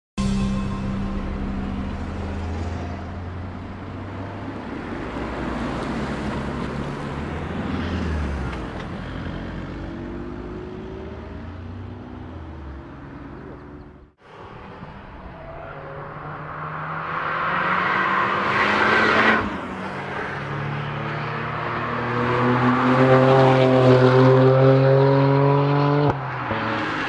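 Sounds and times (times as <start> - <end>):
car engine driving past: 0.4 - 27.0.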